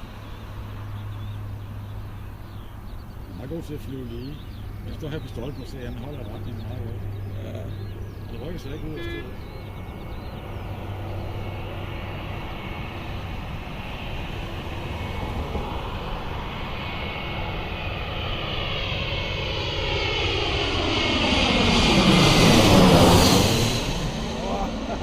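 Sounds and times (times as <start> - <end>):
high engine whine: 0.0 - 25.0
jet airliner passing overhead: 0.0 - 25.0.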